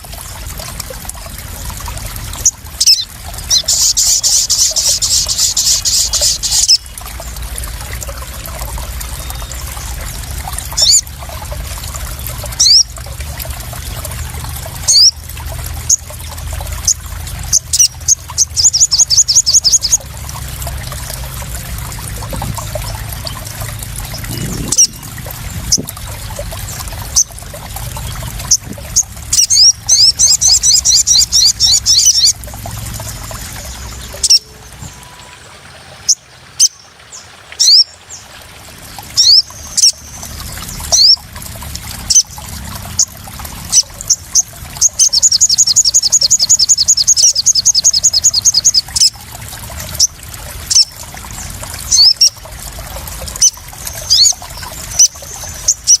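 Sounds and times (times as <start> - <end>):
bird chirps and trills: 0.0 - 13.0, 13.6 - 41.3, 42.0 - 49.2, 49.9 - 56.0
trickling splashing water: 0.0 - 56.0.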